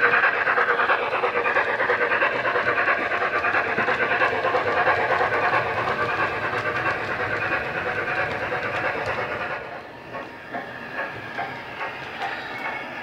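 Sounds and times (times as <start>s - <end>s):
steam engine exhaust chuffs: 0.0s - 13.0s.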